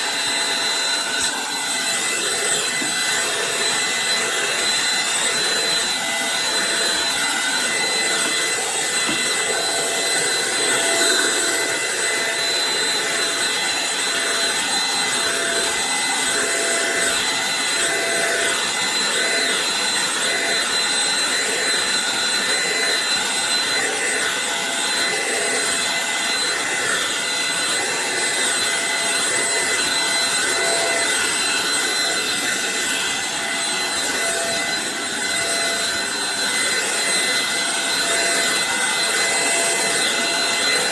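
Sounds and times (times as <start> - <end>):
stick vacuum motor whine: 0.0 - 40.9.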